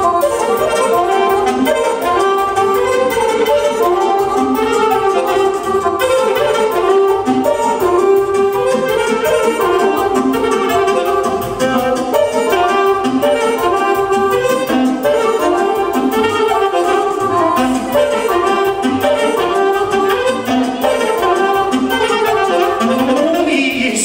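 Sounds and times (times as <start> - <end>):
steady drum beat: 0.0 - 24.0
wind instrument melody: 0.0 - 24.0.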